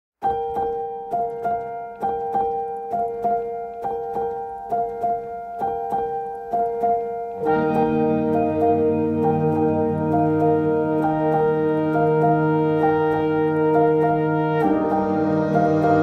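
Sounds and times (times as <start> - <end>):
keyboard music: 0.2 - 16.0.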